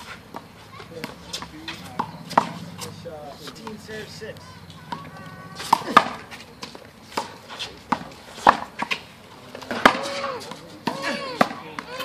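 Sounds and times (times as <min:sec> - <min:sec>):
shoe squeaks: 0:00.0 - 0:12.0.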